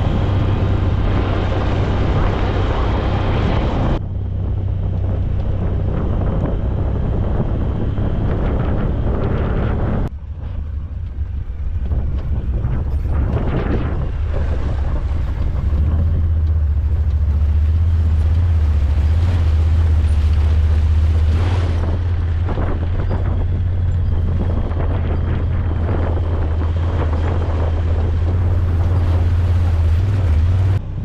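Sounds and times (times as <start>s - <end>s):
vehicle engine running: 0.0s - 31.0s
wind rushing over microphone: 0.0s - 31.0s.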